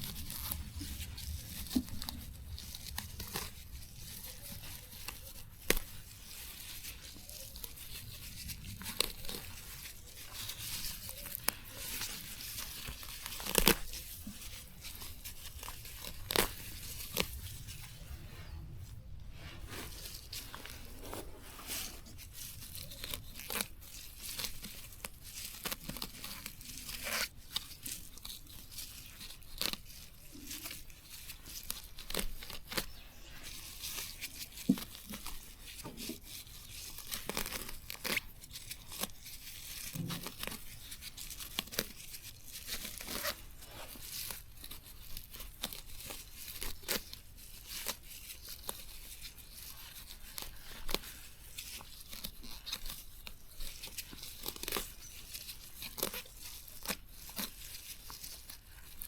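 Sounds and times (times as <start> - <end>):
plant stems tearing and snapping: 0.0 - 17.8, 22.5 - 59.0.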